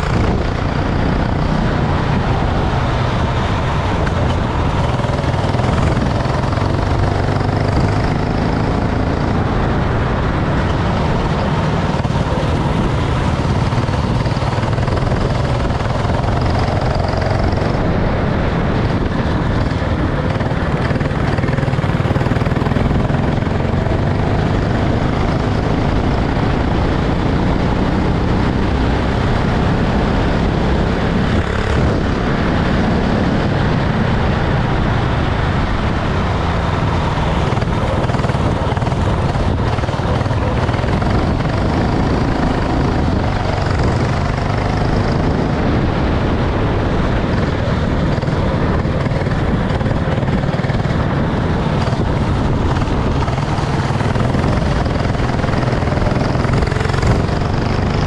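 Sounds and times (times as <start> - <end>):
racing kart engine running: 0.0 - 58.0.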